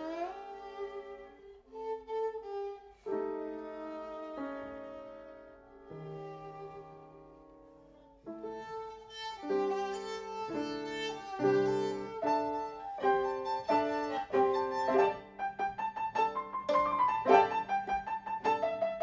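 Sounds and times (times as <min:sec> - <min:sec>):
grand piano: 0:00.0 - 0:19.0
viola: 0:00.0 - 0:19.0.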